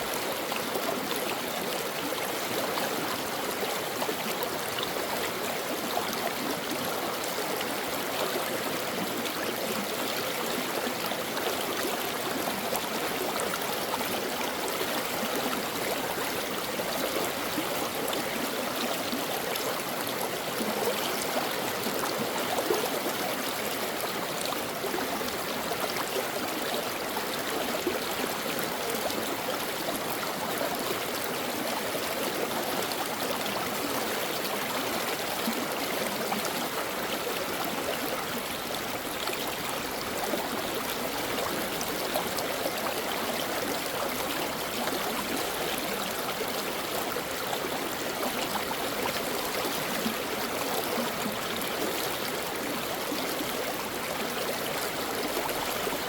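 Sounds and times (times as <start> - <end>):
stream babbling over rocks: 0.0 - 56.0.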